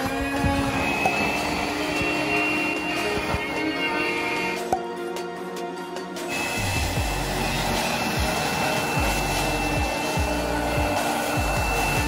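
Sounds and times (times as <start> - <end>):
handheld vacuum cleaner whining: 0.0 - 4.8, 6.2 - 12.0.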